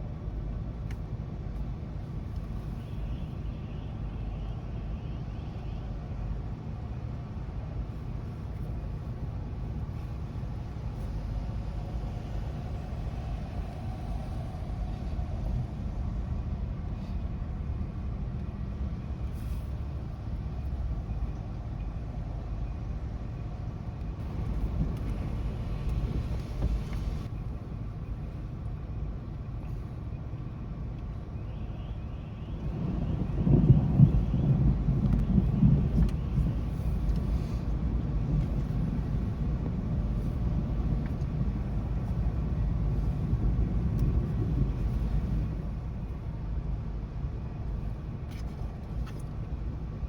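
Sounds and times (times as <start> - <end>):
low outdoor rumble: 0.0 - 50.0.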